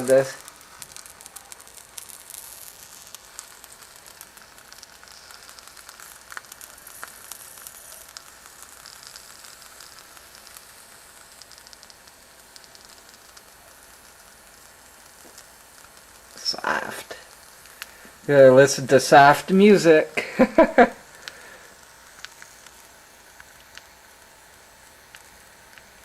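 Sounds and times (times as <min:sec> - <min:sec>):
hot plastic sizzling and crackling: 0:00.0 - 0:26.0.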